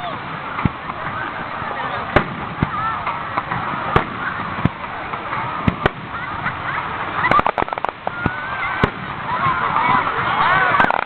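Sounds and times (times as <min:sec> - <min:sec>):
crackling firework bangs: 0:00.0 - 0:11.0
fireworks bangs: 0:00.0 - 0:11.0.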